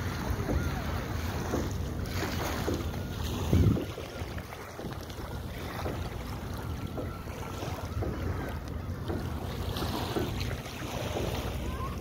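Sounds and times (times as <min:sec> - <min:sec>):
small waves on stony shore: 0:00.0 - 0:12.0
wind rumbling on microphone: 0:00.0 - 0:12.0.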